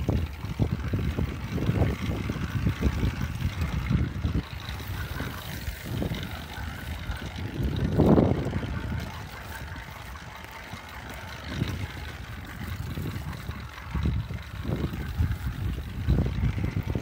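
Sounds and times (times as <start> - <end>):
small engine rumbling: 0.0 - 17.0.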